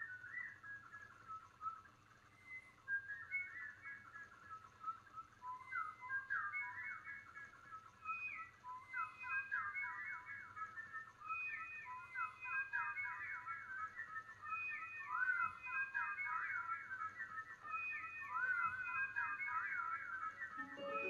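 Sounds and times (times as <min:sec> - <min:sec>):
woman whistling bird calls: 0:00.0 - 0:21.0.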